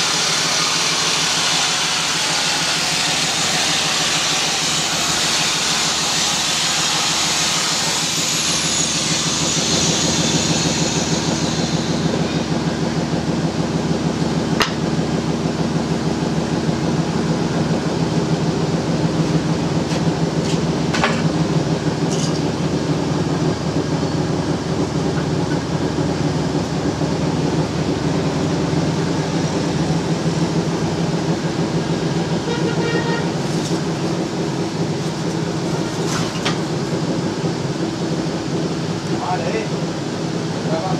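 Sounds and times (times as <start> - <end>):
machine running with low hum: 0.0 - 40.9.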